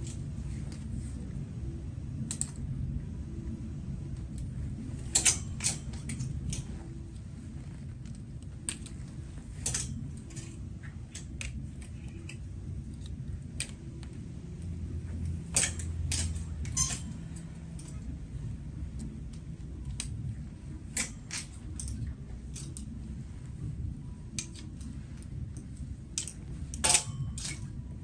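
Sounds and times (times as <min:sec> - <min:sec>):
low hum: 0:00.0 - 0:28.0
metal hangers clicking on rail: 0:04.3 - 0:18.3, 0:19.0 - 0:28.0.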